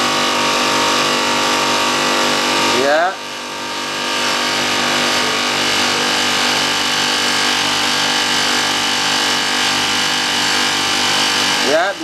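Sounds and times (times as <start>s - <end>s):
compressor humming and hissing: 0.0s - 12.0s.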